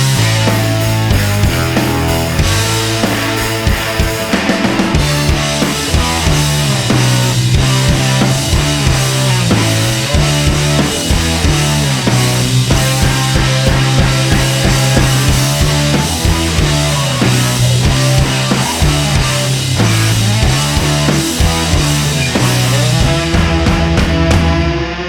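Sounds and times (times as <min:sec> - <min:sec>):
drum beat: 0:00.0 - 0:24.7
bass: 0:00.0 - 0:25.0
rock music: 0:00.0 - 0:25.0.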